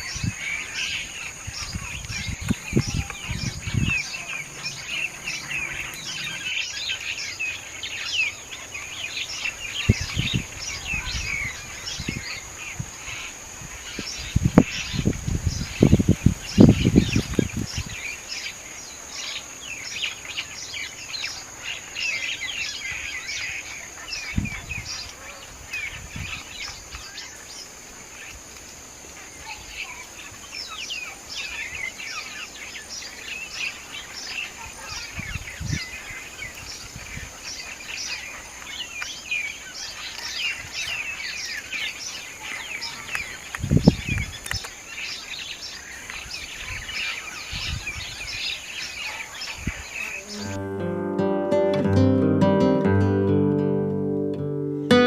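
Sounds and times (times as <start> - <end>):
small birds chirping: 0.0 - 50.6.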